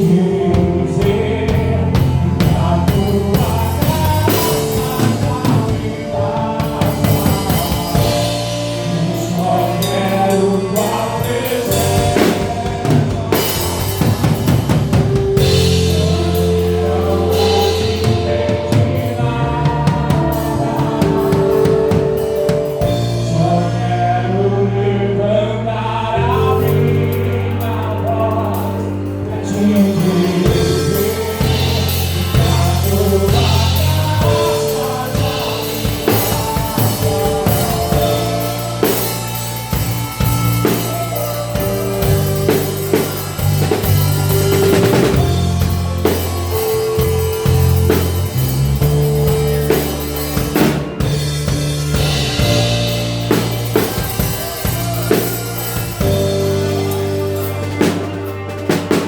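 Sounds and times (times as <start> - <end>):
drum kit: 0.0 - 25.1, 26.2 - 59.0
electric bass low notes: 0.0 - 59.0
voices singing together: 0.0 - 59.0.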